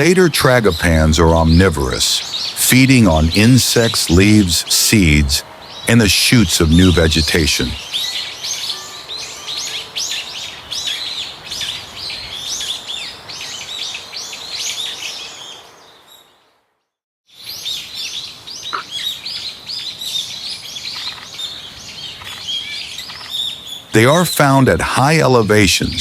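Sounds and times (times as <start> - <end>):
small birds chirping: 0.0 - 16.6, 17.3 - 24.6.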